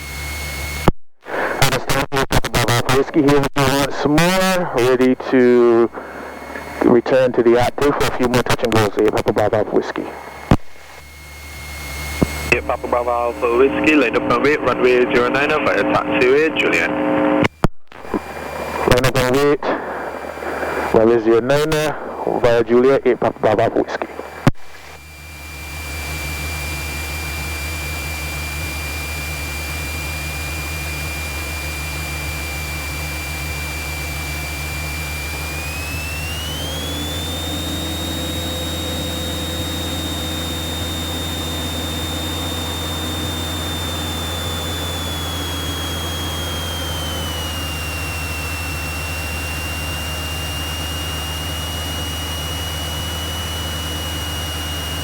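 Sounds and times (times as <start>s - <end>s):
high whine: 0.0s - 55.0s
light aircraft engine drone: 0.0s - 55.0s.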